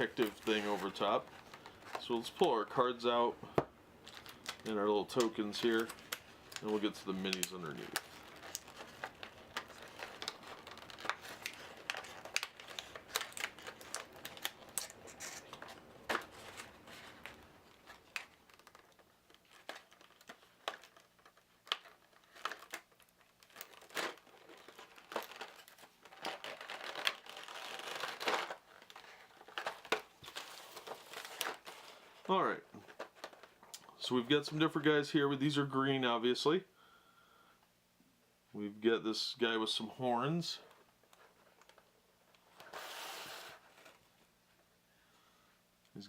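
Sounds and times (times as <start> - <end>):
plastic packaging crinkling: 0.0 - 3.3, 4.0 - 34.1, 40.6 - 44.2.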